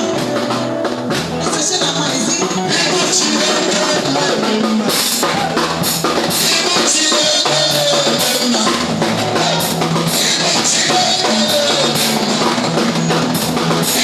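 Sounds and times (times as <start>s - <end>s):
music with driving drum kit: 0.0s - 14.0s.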